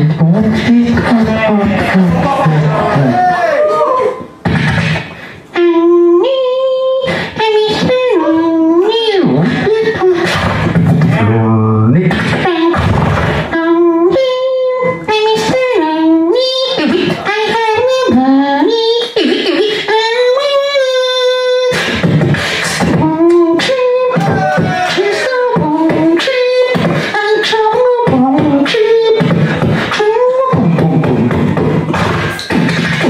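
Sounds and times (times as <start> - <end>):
person beatboxing: 0.0 - 3.4, 4.1 - 33.0.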